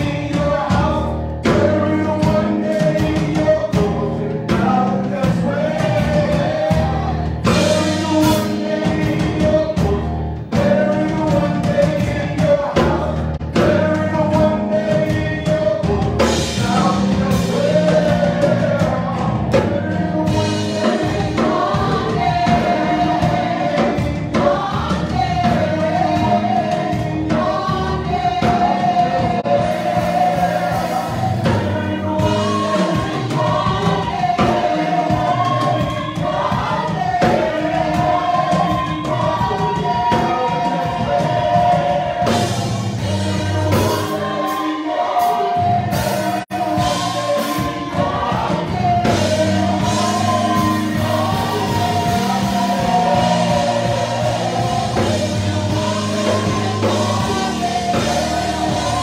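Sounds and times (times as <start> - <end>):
amplified accompaniment with beat: 0.0 - 59.0
group singing gospel: 0.0 - 59.0.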